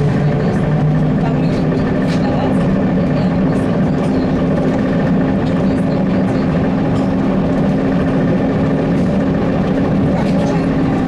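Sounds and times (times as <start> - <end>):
road and tyre noise: 0.0 - 11.0
trolleybus motor hum: 0.0 - 11.0.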